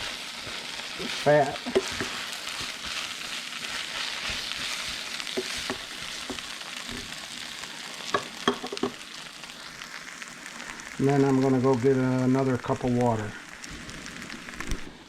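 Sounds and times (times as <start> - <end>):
fat sizzling in a pot: 0.0 - 15.0.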